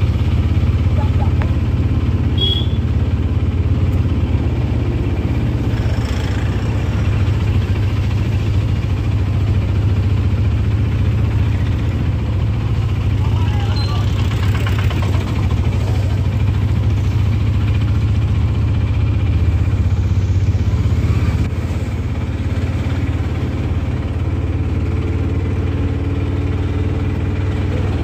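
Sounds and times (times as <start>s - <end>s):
auto-rickshaw engine drone: 0.0s - 28.0s
road noise: 0.0s - 28.0s.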